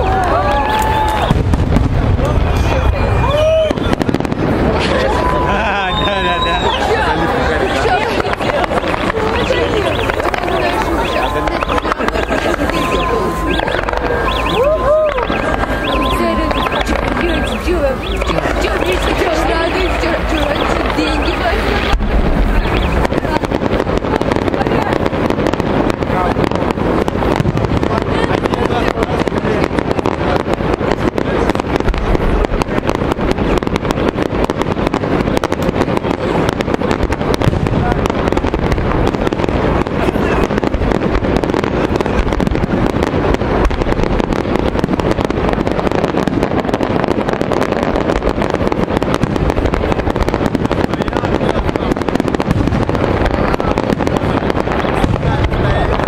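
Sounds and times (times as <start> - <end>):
firework shells bursting: 7.6 - 56.0.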